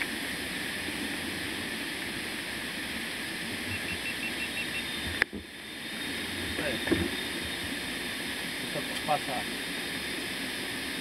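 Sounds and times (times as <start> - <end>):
steady rushing hiss: 0.0 - 11.0.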